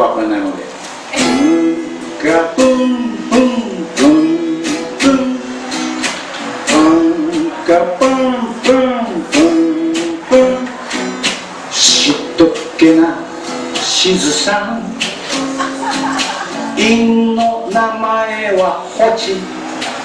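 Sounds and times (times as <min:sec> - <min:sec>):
strummed acoustic string instrument: 0:00.8 - 0:20.0
person singing: 0:01.2 - 0:19.5.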